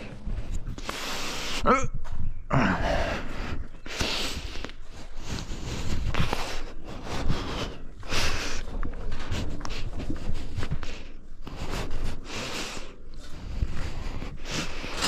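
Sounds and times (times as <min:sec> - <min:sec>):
person breathing: 0:00.0 - 0:01.7, 0:02.5 - 0:15.0.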